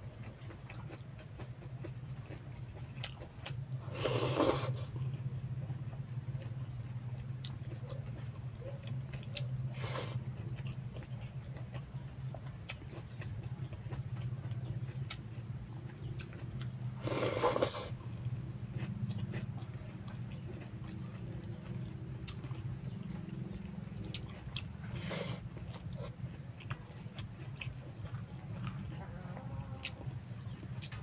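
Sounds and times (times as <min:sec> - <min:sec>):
wet chewing clicks and smacks: 0:00.0 - 0:04.0, 0:04.7 - 0:31.0
steady low hum: 0:00.0 - 0:31.0.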